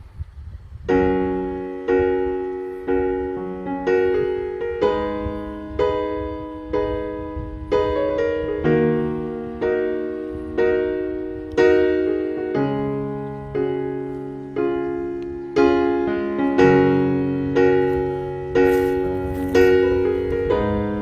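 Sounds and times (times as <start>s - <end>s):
slow piano chords: 0.8s - 21.0s.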